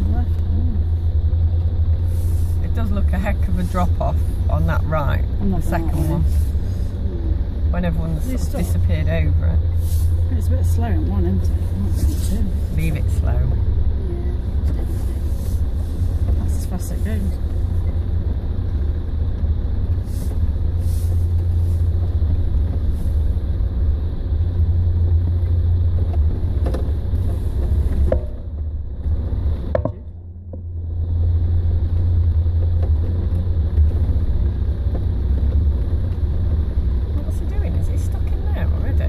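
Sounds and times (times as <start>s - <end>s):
distant vehicles crawling through mud: 0.0s - 39.0s.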